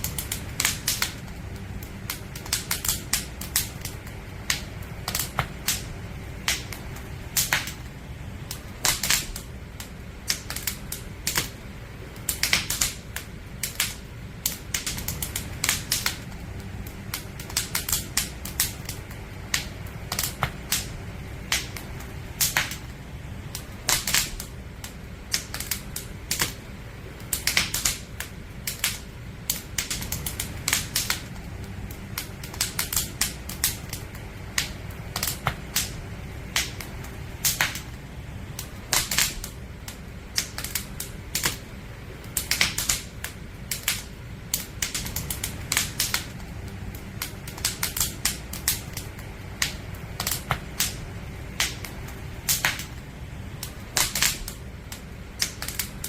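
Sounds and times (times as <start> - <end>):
campfire crackling and popping: 0.0 - 56.0
steady low rumble: 0.0 - 56.0.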